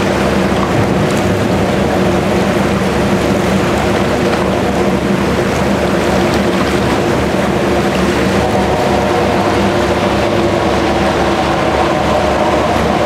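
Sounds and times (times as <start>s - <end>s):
choppy water washing: 0.0s - 13.0s
ship engine droning: 0.0s - 13.0s
wind: 0.0s - 13.0s.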